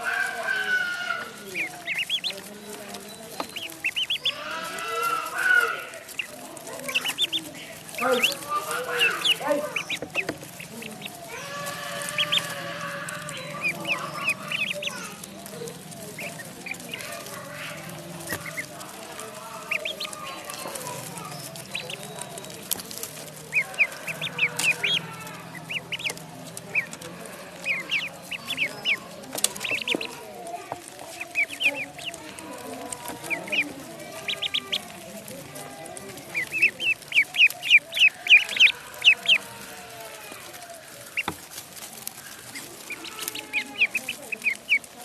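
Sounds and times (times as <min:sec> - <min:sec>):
ducklings peeping: 0:00.0 - 0:45.0
ducks quacking: 0:00.0 - 0:45.0.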